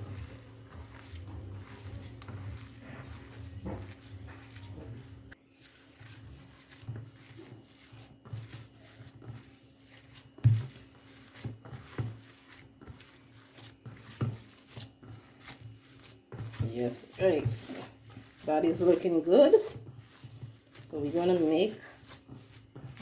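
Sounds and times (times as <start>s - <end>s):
hands kneading meat mixture: 0.0s - 23.0s.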